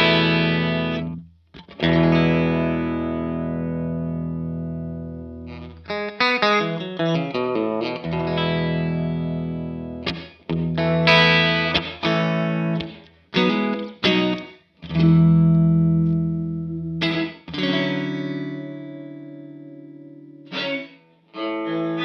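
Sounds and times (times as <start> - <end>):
electric guitar with overdrive: 0.0 - 22.0.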